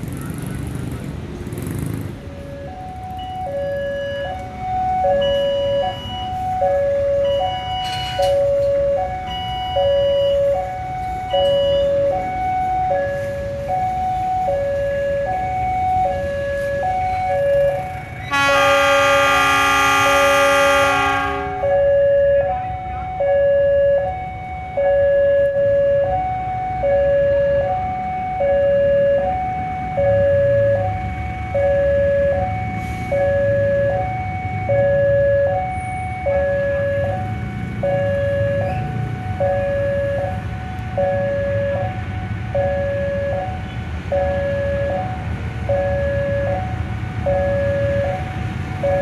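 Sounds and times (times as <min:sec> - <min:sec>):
level crossing two-tone alarm: 0:02.4 - 0:49.0.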